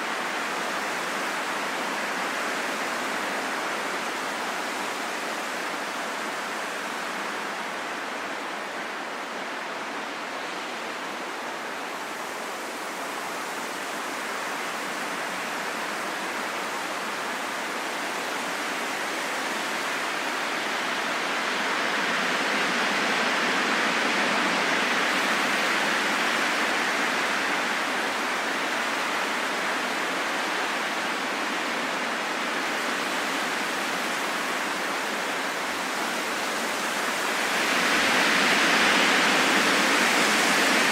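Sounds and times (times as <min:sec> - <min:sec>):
rain falling in a forest: 0:00.0 - 0:40.9.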